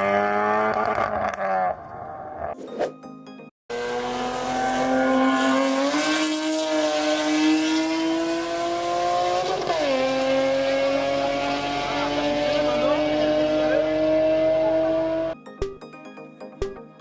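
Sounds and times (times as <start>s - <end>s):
car engine accelerating hard: 0.0s - 2.2s, 3.7s - 15.4s.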